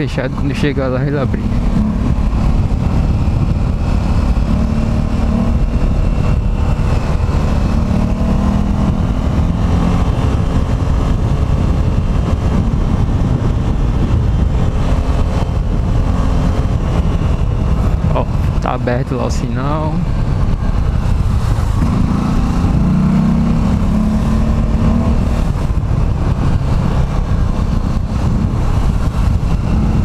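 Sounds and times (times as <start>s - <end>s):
road noise rumble: 0.0s - 30.0s
vehicle engine running: 0.0s - 30.0s.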